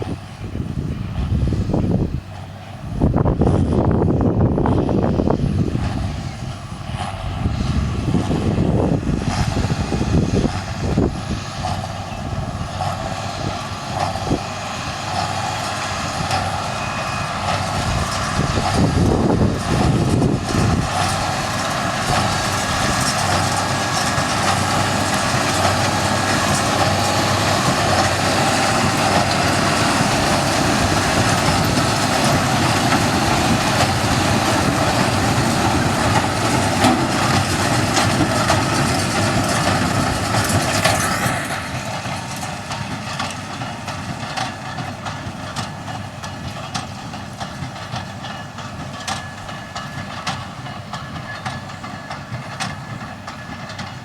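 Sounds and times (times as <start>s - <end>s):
large vehicle running: 0.0s - 54.0s.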